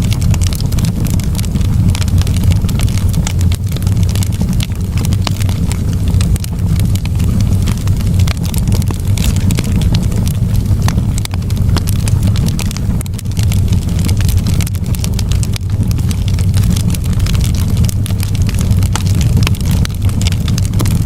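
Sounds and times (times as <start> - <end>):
campfire crackling and popping: 0.0 - 21.0
fire low rumble: 0.0 - 21.0.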